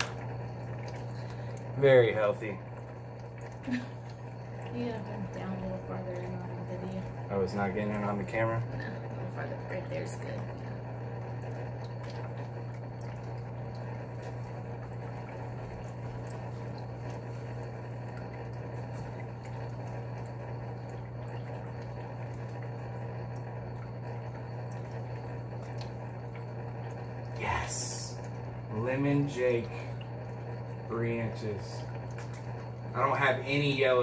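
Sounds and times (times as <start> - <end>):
aquarium equipment humming: 0.0 - 34.0
water bubbling and trickling: 0.0 - 34.0.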